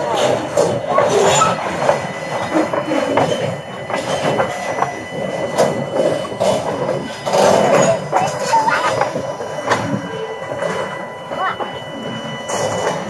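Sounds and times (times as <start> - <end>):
freight cars rumbling on rails: 0.0 - 13.0
wheels clicking and knocking: 0.0 - 13.0.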